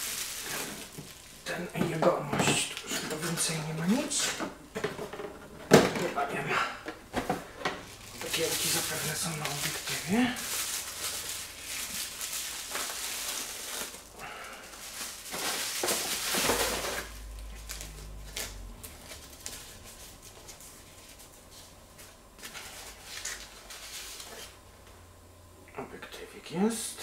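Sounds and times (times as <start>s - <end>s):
bubble wrap crinkling: 0.0s - 5.1s, 7.8s - 24.6s.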